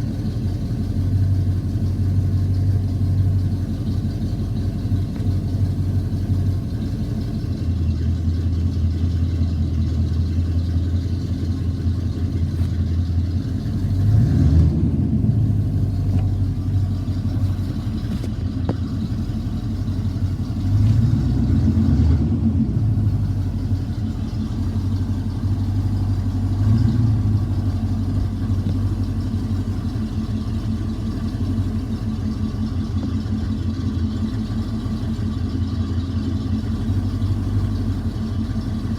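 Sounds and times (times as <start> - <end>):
engine idling and revving: 0.0 - 38.9.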